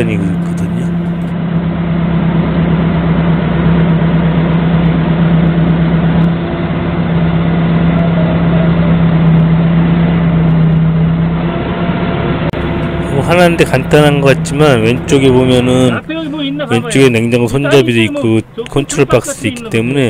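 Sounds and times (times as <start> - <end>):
forklift engine humming: 0.0 - 20.0.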